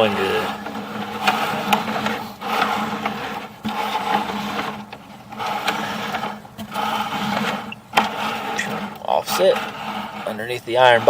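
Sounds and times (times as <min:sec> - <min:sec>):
steady hum: 0:00.0 - 0:10.2
cable rattling and scraping in pipe: 0:00.0 - 0:11.0.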